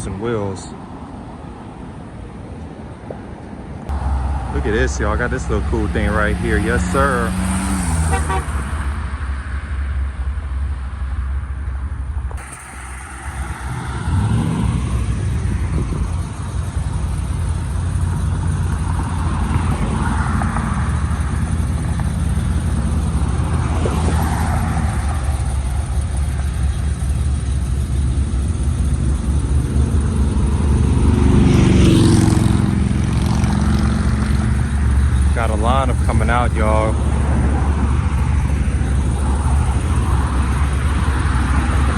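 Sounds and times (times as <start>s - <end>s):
car engines idling: 0.0s - 41.9s
engine revving: 3.9s - 10.4s, 12.3s - 41.9s.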